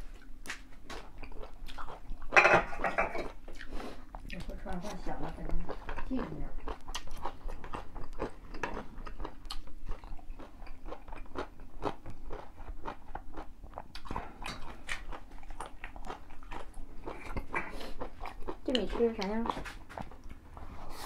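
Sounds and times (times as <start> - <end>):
man chewing crunchy food: 0.0 - 2.4, 3.2 - 21.0.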